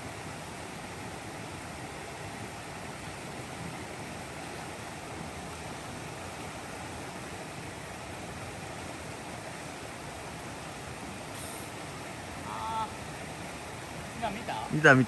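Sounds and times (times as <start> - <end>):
mountain stream flowing: 0.0 - 15.0.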